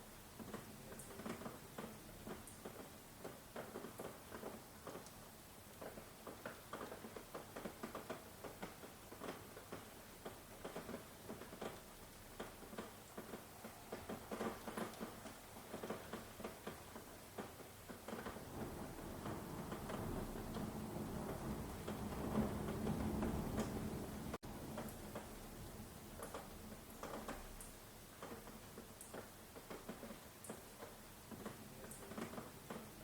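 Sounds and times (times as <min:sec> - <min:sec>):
faint hiss of rainfall: 0:00.0 - 0:33.0
raindrops tapping on hard surface: 0:00.3 - 0:33.0.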